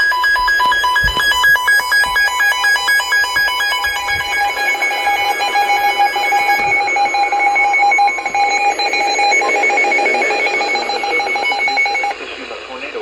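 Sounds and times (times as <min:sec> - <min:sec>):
rapidly pulsing alarm beeps: 0:00.0 - 0:13.0.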